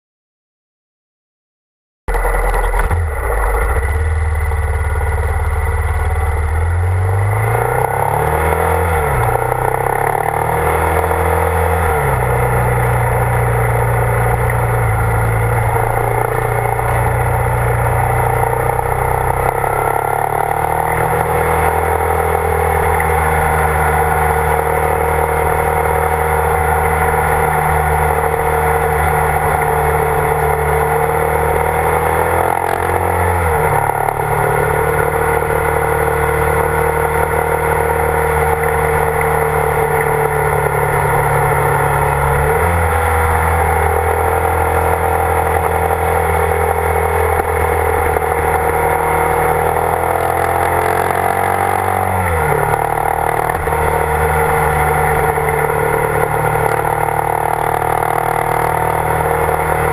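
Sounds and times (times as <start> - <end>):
motorcycle engine accelerating: 2.1 - 59.9.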